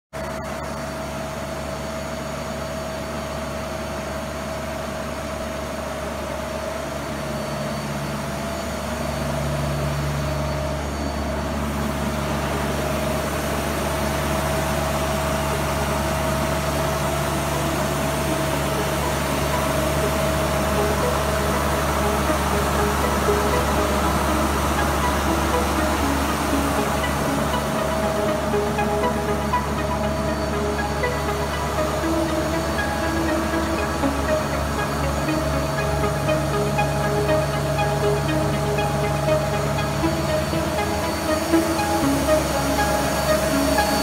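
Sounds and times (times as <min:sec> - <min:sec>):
machine motor and fans humming: 0:00.2 - 0:44.0.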